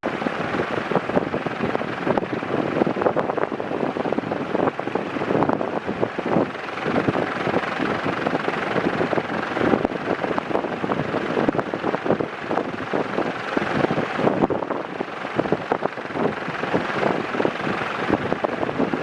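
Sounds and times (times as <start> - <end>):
ceiling fan whooshing: 0.0 - 19.0.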